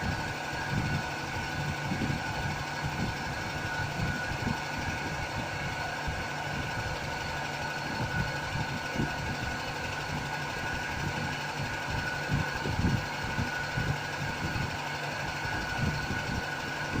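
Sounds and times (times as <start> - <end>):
vacuum motor whine and hum: 0.0 - 17.0.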